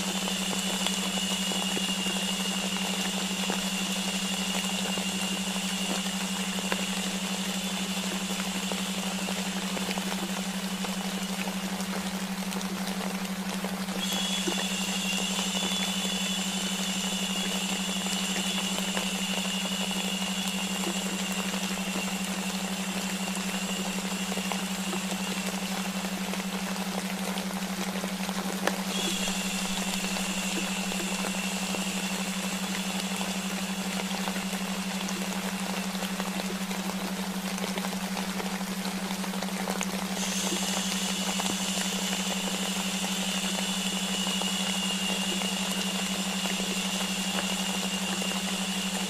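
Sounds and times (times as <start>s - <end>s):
low hum-like tone: 0.0s - 49.0s
rain-like white noise: 0.0s - 49.0s.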